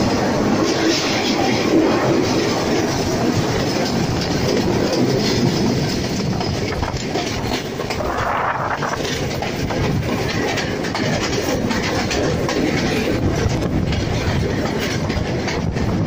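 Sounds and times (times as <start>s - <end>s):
train rumbling: 0.0s - 16.0s
train wheels clattering over rails: 0.0s - 16.0s.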